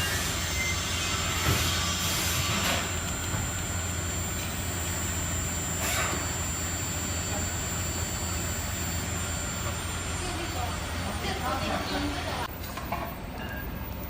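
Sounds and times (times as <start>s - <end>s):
machine hum with hiss: 0.0s - 12.5s.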